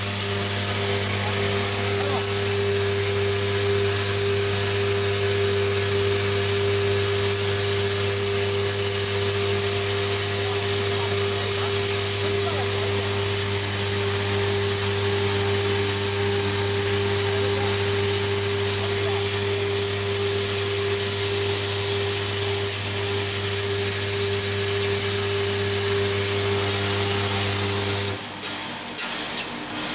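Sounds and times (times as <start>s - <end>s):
machine hiss: 0.0s - 28.2s
machine humming: 0.0s - 28.5s.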